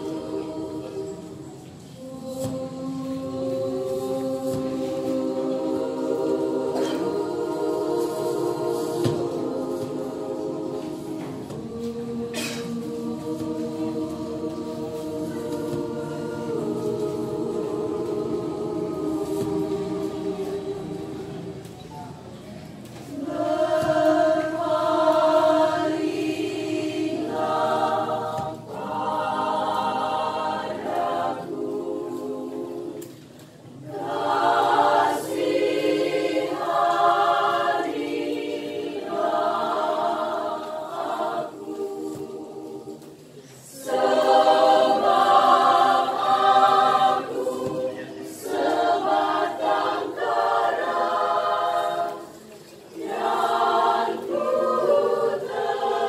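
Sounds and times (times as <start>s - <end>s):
women's choir singing: 0.0s - 56.0s.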